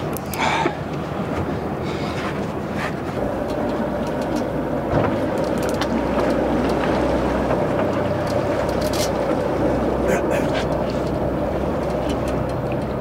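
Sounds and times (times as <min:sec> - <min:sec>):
boat engine running: 0:00.0 - 0:13.0
wind and water noise: 0:00.0 - 0:13.0.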